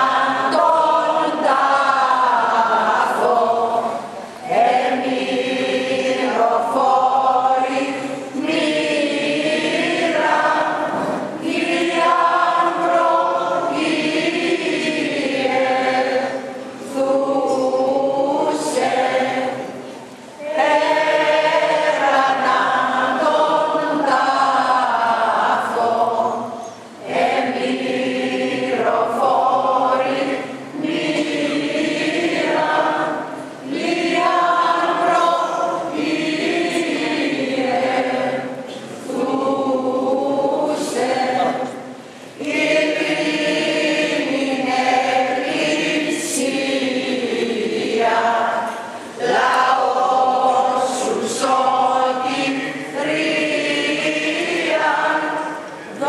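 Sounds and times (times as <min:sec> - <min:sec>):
choir chanting: 0:00.0 - 0:56.0.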